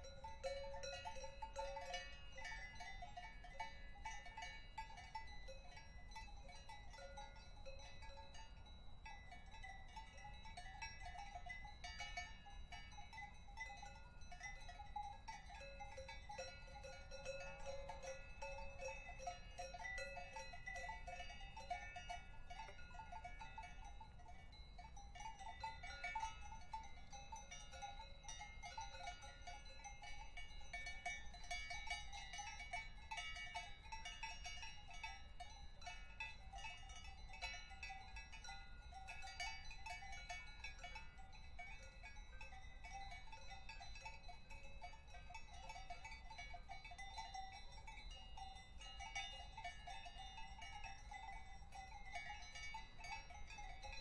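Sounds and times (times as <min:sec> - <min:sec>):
cowbells clanking: 0:00.0 - 0:54.0.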